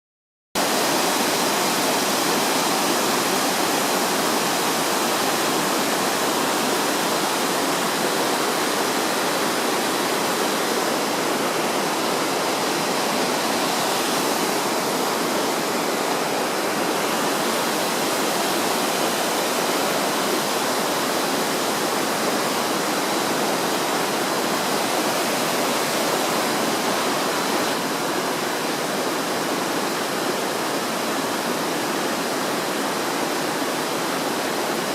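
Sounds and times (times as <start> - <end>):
waterfall splashing: 0.6 - 34.9.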